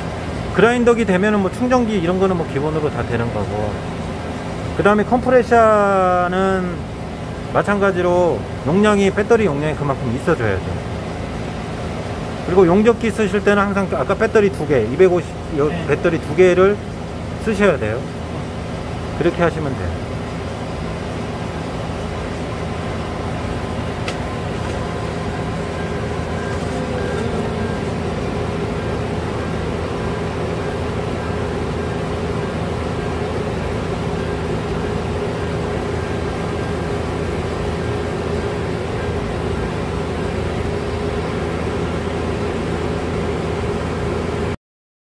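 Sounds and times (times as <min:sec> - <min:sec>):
van engine idling: 0:00.0 - 0:44.4.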